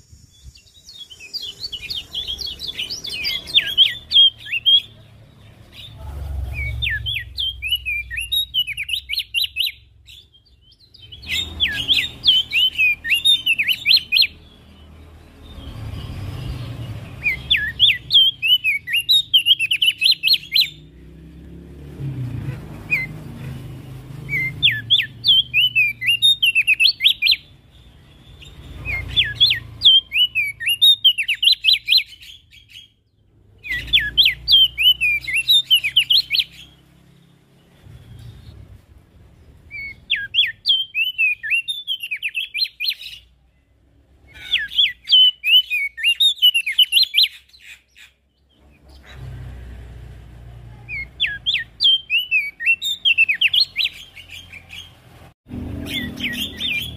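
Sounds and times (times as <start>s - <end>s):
bird singing chattering notes: 0.0s - 21.5s, 22.7s - 43.4s, 44.2s - 49.2s, 50.9s - 55.0s, 55.8s - 56.9s.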